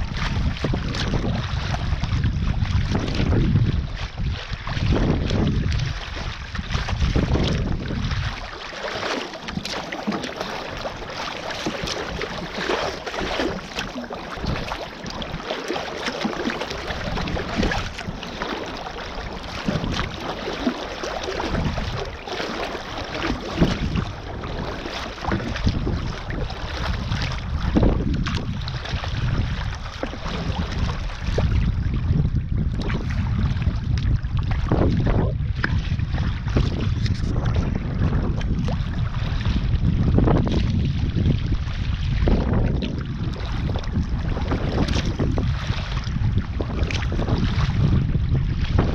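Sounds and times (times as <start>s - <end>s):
water splashing against kayak: 0.0s - 48.9s
wind buffeting microphone: 0.0s - 48.9s.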